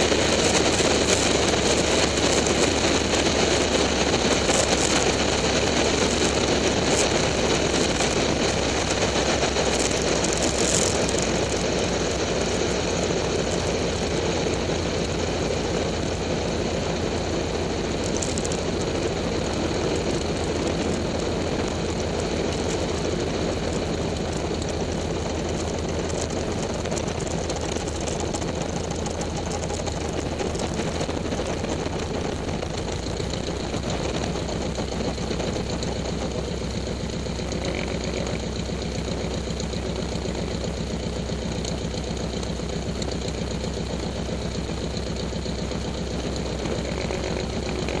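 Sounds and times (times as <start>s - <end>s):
aircraft engine idling: 0.0s - 48.0s.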